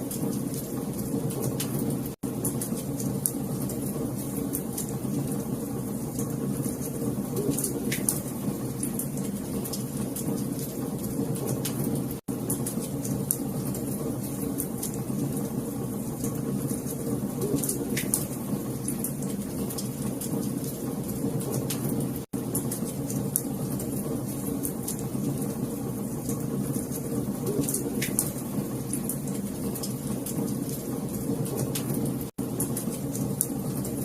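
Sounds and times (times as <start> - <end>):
low rumble of burning: 0.0 - 34.0.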